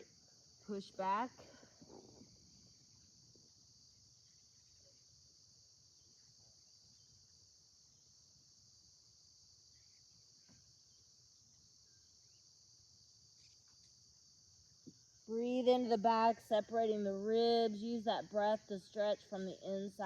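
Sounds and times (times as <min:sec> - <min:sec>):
faint crickets trilling: 0:00.0 - 0:20.0.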